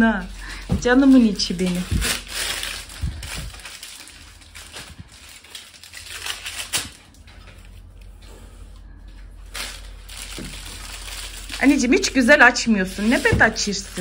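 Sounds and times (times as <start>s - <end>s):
cardboard packaging rustling: 0.0s - 8.2s, 9.1s - 14.0s.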